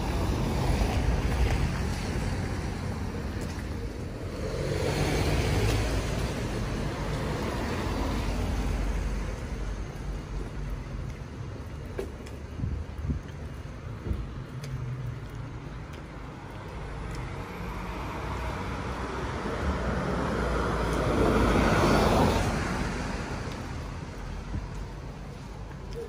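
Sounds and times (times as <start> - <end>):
vehicle passing: 0.0 - 9.8, 14.4 - 25.6
wind rumble on microphone: 0.0 - 17.3, 18.7 - 25.4.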